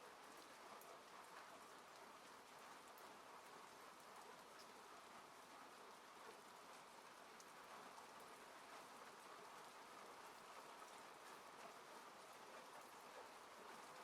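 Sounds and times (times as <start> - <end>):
rain falling on a car: 0.0 - 14.0.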